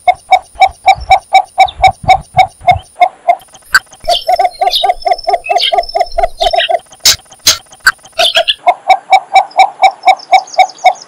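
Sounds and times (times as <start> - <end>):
bittern calling: 0.0 - 11.0.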